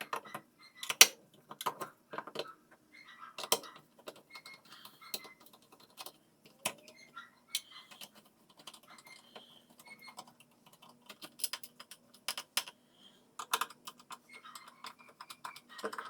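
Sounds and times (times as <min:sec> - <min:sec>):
hand tools clicking and tapping: 0:00.0 - 0:02.5, 0:03.4 - 0:12.8, 0:13.4 - 0:16.0.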